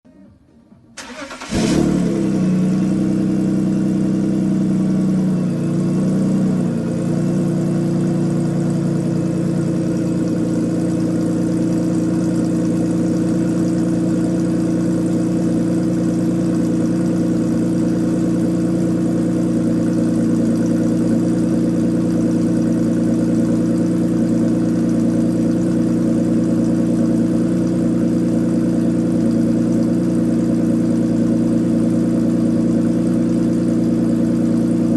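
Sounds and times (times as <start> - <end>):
car engine starting and idling: 0.7 - 34.9.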